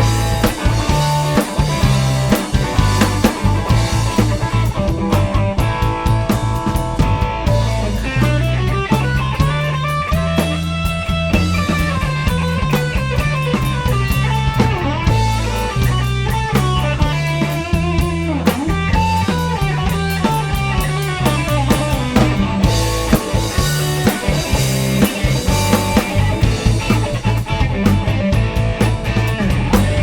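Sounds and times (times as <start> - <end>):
bass and drum kit: 0.0 - 30.0
rock guitar melody: 0.0 - 30.0.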